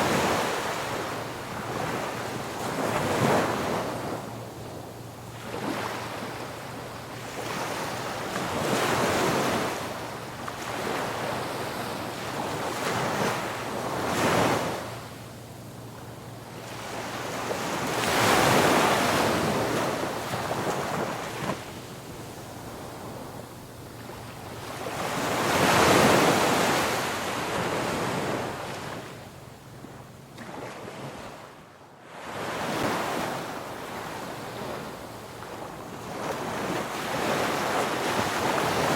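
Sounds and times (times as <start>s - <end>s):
ocean waves crashing on beach: 0.0s - 38.9s.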